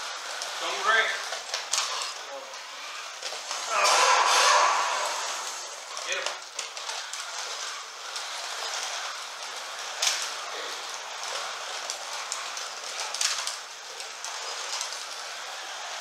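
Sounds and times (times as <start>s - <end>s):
slot car motors whirring: 0.0s - 16.0s.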